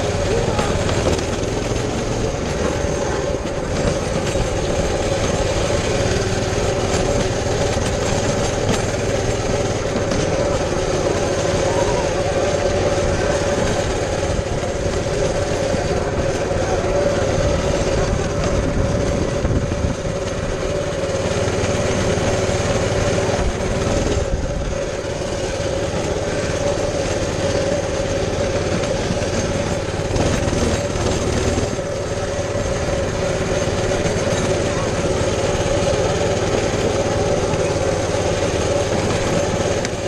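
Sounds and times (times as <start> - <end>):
minibike engine running: 0.0 - 40.0.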